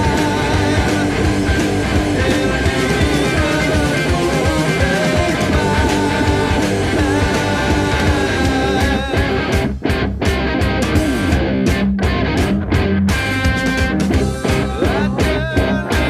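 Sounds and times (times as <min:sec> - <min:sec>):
electric guitar playing: 0:00.0 - 0:16.0
rock backing track: 0:00.0 - 0:16.0.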